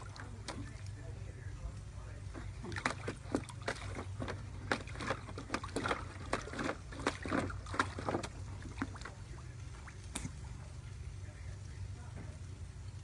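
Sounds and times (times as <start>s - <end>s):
dog splashing in paddling pool: 0.0s - 12.4s.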